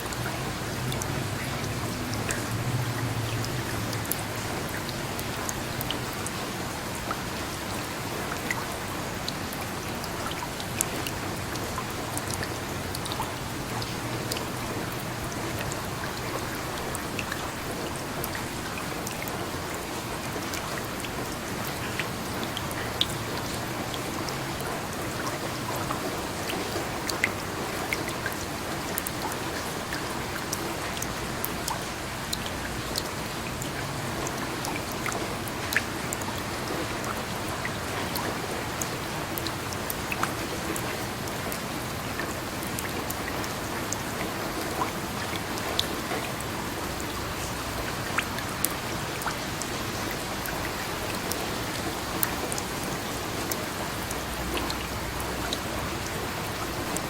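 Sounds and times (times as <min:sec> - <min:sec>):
raindrops ticking on a surface: 0:00.0 - 0:57.0
steady rain hissing: 0:00.0 - 0:57.0.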